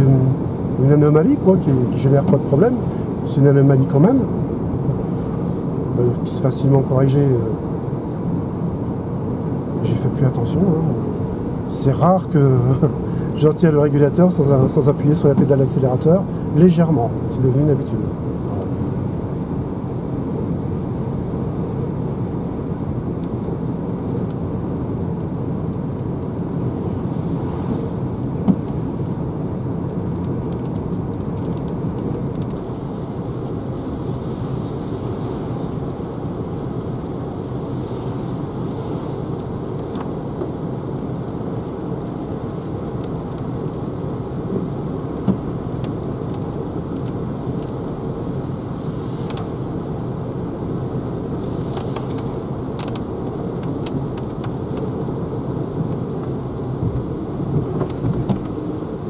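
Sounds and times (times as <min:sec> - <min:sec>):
tyre noise on wet road: 0:00.0 - 0:59.0
rain on car: 0:00.2 - 0:06.0, 0:06.9 - 0:59.0.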